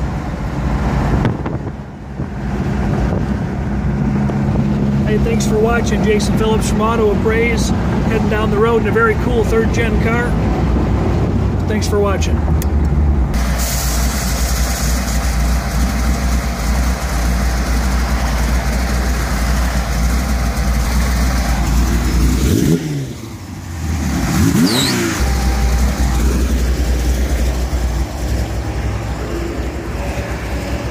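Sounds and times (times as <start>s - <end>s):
car engine idling: 0.0s - 30.9s
engine revving: 2.2s - 30.9s.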